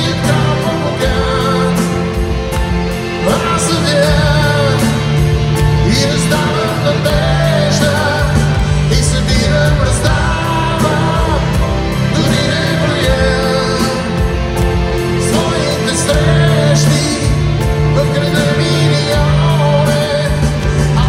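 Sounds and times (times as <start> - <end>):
live band playing: 0.0 - 21.0
man singing: 0.0 - 21.0.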